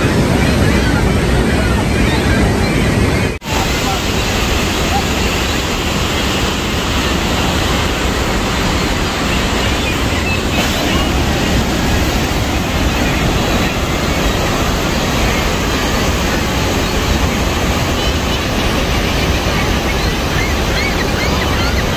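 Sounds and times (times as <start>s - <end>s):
waterfall rushing onto rocks: 3.4s - 21.9s.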